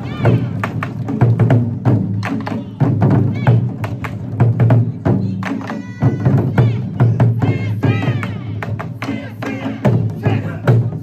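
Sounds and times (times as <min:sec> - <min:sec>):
taiko drums: 0:00.0 - 0:11.0.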